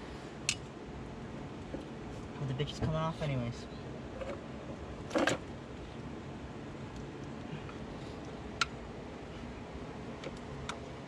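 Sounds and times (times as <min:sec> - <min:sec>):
steady low background noise: 0:00.0 - 0:11.0.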